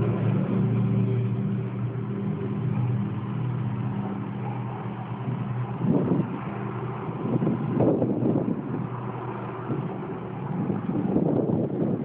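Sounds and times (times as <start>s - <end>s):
irregular rumbling bursts: 0.0s - 12.0s
low droning hum: 0.0s - 12.0s.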